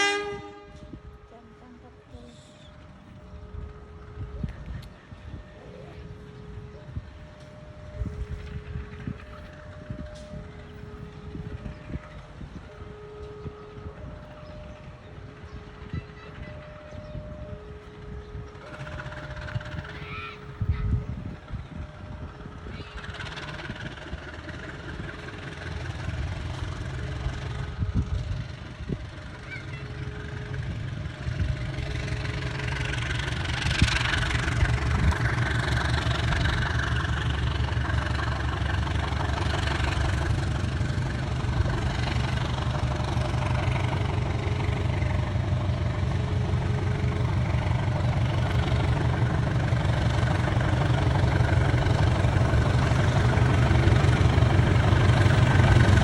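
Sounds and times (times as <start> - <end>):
diesel train engine rumbling: 0.0 - 56.0.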